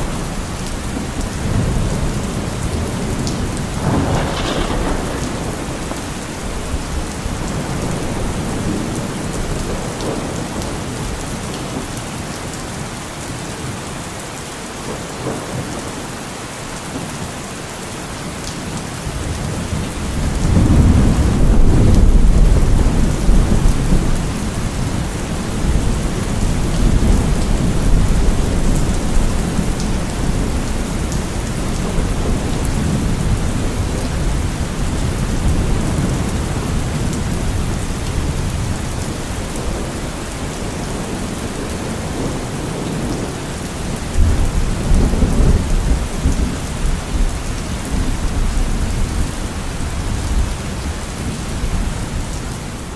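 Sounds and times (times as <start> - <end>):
low rolling thunder: 0.0 - 11.5, 19.0 - 52.3
heavy rain falling: 0.0 - 52.9.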